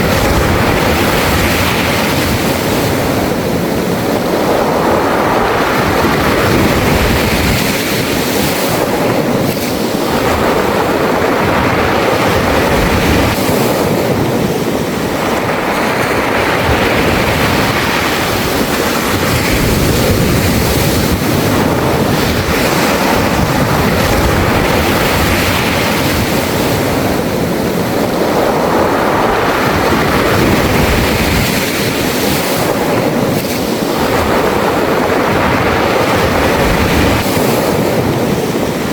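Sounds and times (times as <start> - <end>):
waves washing over pebbles: 0.0 - 38.9.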